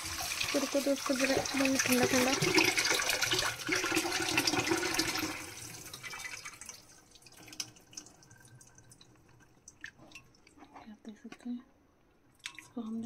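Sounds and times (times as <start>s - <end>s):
tap water running into colander: 0.0s - 10.5s
water dripping: 0.0s - 10.7s, 12.0s - 13.0s.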